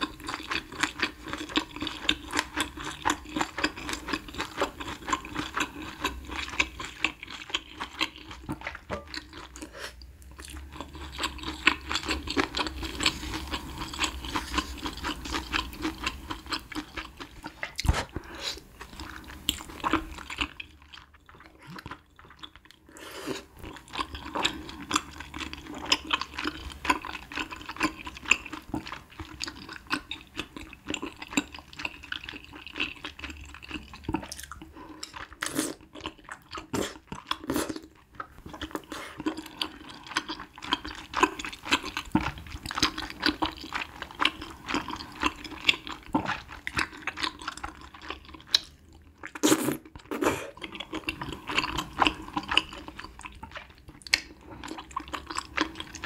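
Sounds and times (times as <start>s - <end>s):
chewing noodles: 0.0s - 56.0s.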